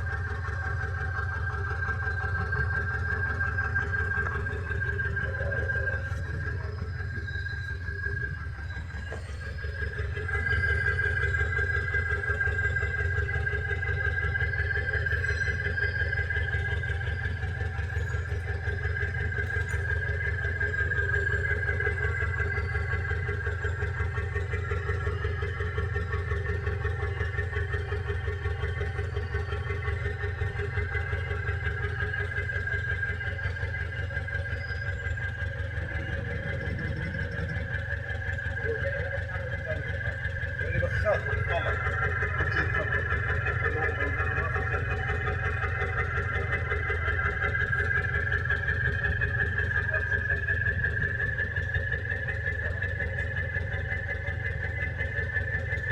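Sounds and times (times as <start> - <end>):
high whine: 0.0 - 54.3
diesel engine running: 0.0 - 55.9.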